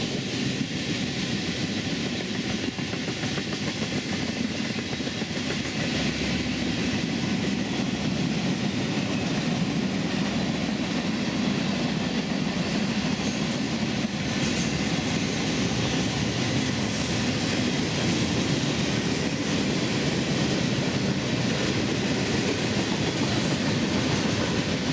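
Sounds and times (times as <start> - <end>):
freight train wheels rumbling: 0.0 - 24.9.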